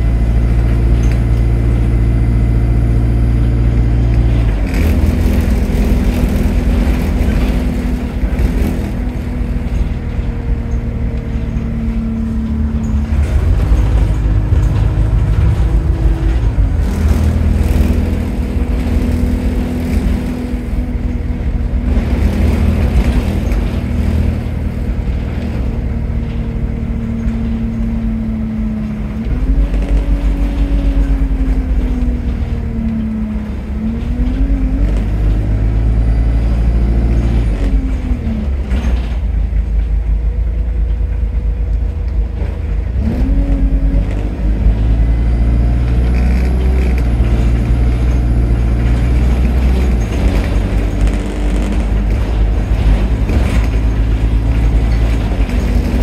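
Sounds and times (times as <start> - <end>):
bus engine accelerating: 0.0 - 56.0
heavy low rumble: 0.0 - 56.0.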